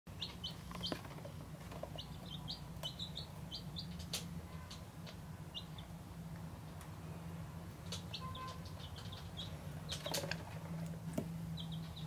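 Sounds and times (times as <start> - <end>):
chicks peeping: 0.1 - 6.2, 7.7 - 12.0
steady low hum: 0.1 - 12.0.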